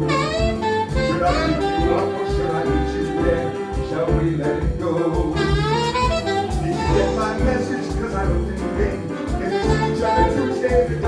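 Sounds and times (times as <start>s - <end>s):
bass: 0.0s - 11.0s
drums: 0.0s - 11.0s
piano: 0.0s - 11.0s
saxophone solo: 0.0s - 11.0s.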